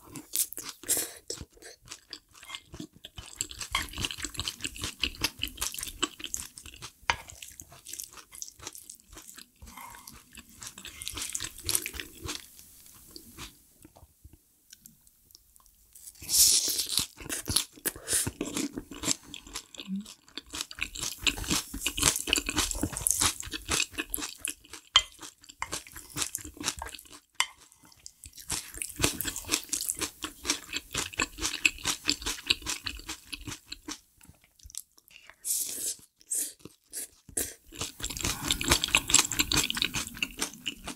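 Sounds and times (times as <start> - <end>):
person chewing and crunching food: 0.0 - 14.0, 14.7 - 40.9.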